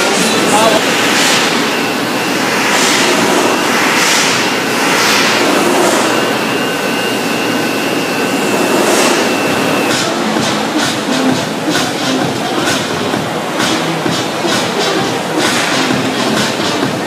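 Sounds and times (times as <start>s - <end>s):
faint high whine: 0.0s - 17.0s
loud rushing machine hum: 0.0s - 17.0s.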